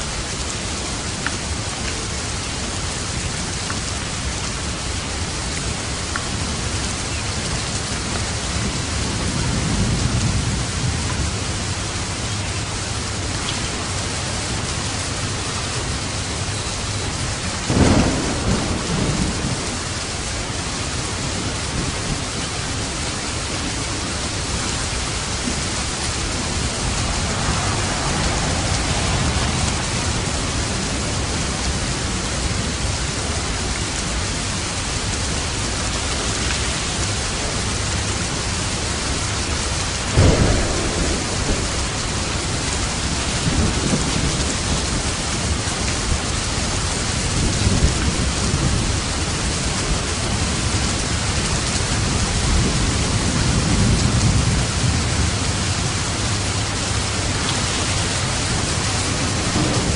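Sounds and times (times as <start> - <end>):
heavy rain falling: 0.0 - 59.9
thunder cracking and rumbling: 3.0 - 59.9.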